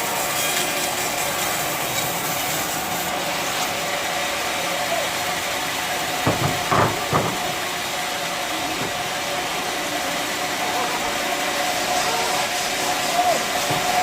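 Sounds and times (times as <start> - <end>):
bandsaw sawmill humming: 0.0 - 14.0.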